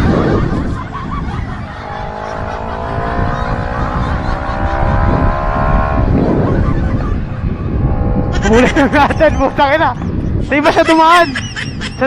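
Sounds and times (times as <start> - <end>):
wind rush on microphone: 0.0 - 12.0
motorcycle engine accelerating: 0.3 - 10.5.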